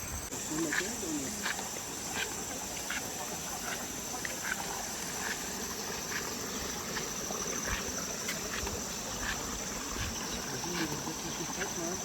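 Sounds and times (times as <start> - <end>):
insects chirring: 0.0 - 12.0
short insect chirps: 0.0 - 12.0.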